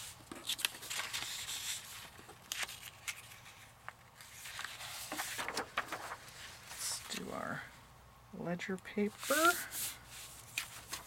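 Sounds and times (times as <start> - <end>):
paper pages rustling: 0.0 - 7.3, 9.1 - 11.0.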